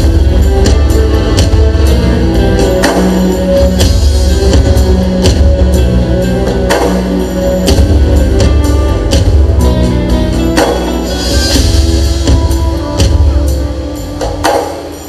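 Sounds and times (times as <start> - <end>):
bass line: 0.0 - 15.0
rock band playing: 0.0 - 15.0.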